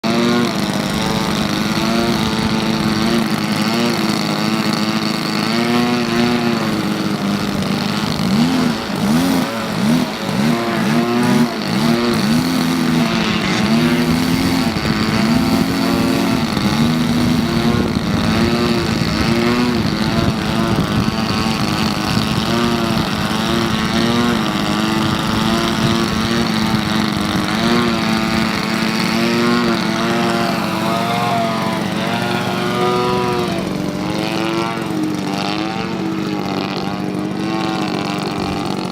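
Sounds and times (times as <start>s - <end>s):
propeller airplane engine: 0.0s - 38.9s.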